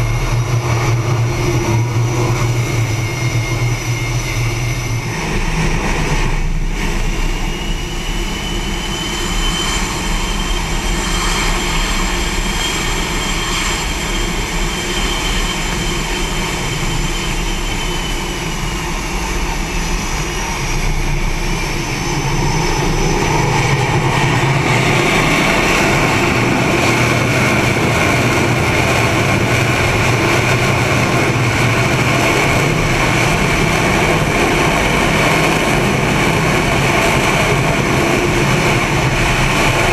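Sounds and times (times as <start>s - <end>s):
aircraft turbine engines whining: 0.0s - 39.9s.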